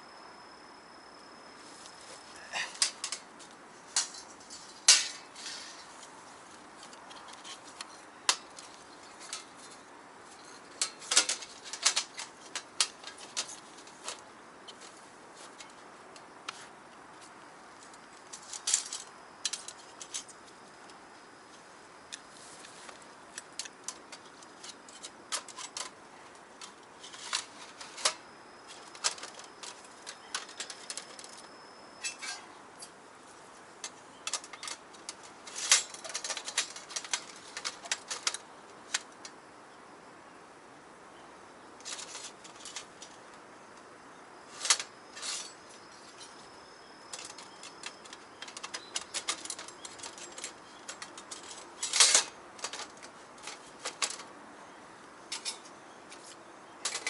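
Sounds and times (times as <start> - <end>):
camping gear clicking and rustling: 1.6 - 39.4, 41.8 - 43.5, 44.4 - 57.0.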